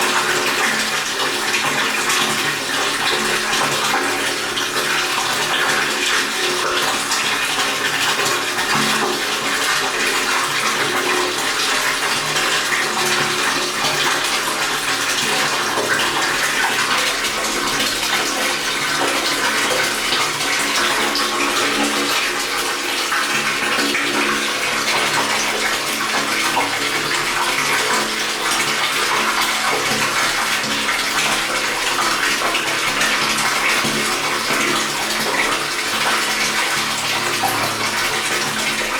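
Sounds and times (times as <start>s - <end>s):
water pouring into tank: 0.0s - 38.9s.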